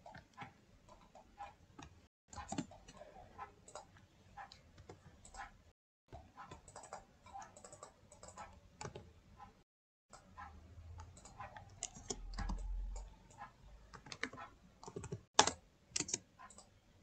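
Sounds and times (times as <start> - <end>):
keyboard and mouse clicking: 0.0 - 5.5, 6.1 - 9.1, 10.1 - 16.7.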